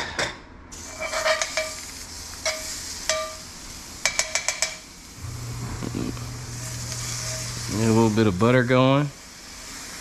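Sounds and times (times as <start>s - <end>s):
garlic sizzling in a skillet: 0.8s - 10.0s.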